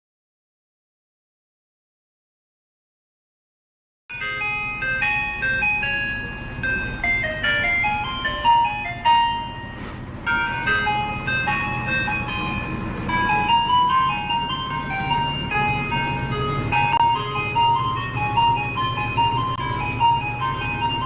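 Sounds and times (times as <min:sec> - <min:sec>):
ice cream truck chime melody: 0:04.1 - 0:21.0
truck engine rumble: 0:04.1 - 0:21.0.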